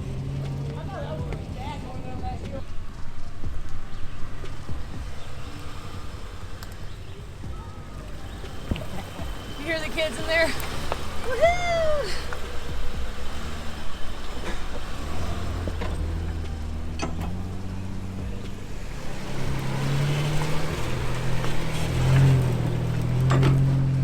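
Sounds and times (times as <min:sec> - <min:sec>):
car engine driving: 0:00.0 - 0:24.0.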